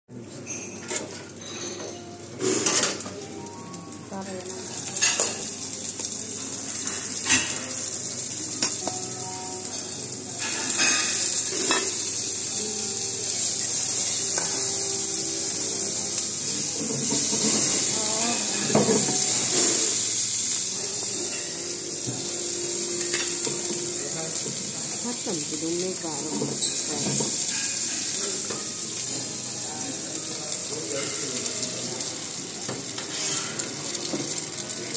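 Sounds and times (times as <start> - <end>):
vegetables sizzling in pan: 0.4 - 34.9.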